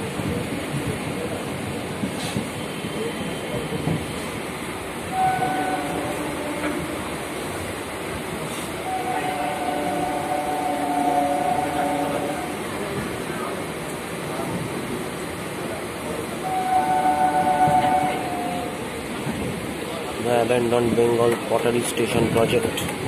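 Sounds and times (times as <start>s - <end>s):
train wheels rumbling and rattling: 0.0s - 23.0s.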